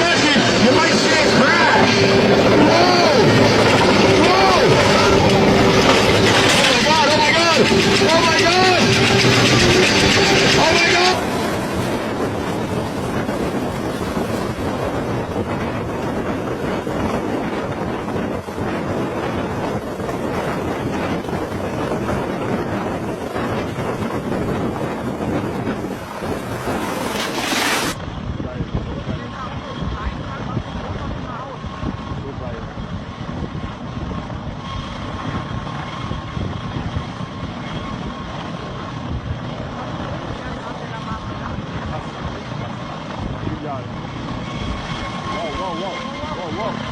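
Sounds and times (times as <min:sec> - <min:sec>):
thin steady whine: 0:00.0 - 0:28.4, 0:29.1 - 0:46.9
helicopter engine and rotor: 0:00.0 - 0:46.9.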